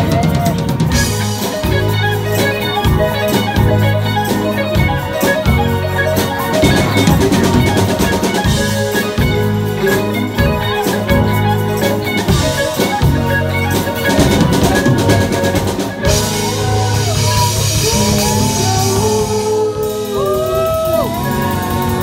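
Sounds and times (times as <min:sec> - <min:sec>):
bass: 0:00.0 - 0:22.0
drum kit beats and cymbals: 0:00.0 - 0:22.0
live rock band playing: 0:00.0 - 0:22.0.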